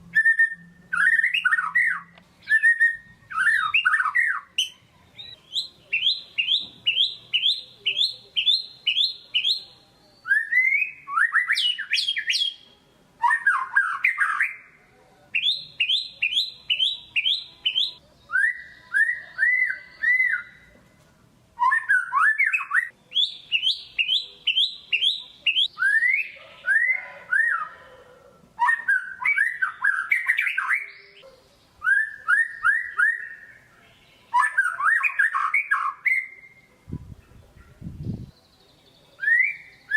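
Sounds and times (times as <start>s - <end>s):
songbird singing whistled notes: 0.0s - 20.8s, 21.6s - 28.0s, 28.6s - 39.9s.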